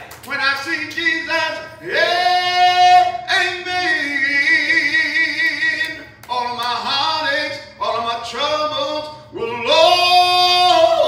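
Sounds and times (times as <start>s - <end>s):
man singing gospel into microphone: 0.3s - 11.0s.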